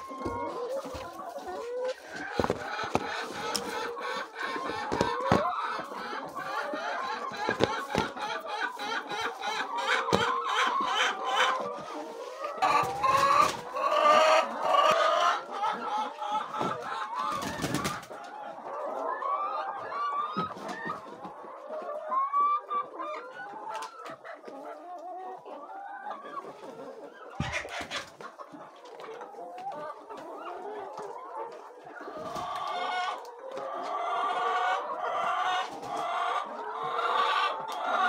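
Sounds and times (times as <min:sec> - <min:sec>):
hens clucking: 0:00.0 - 0:38.0.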